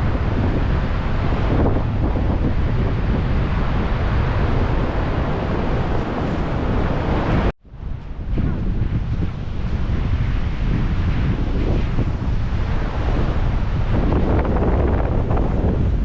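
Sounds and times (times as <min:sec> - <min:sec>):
ocean surf: 0:00.0 - 0:07.5, 0:09.2 - 0:16.0
wind buffeting microphone: 0:00.0 - 0:16.0.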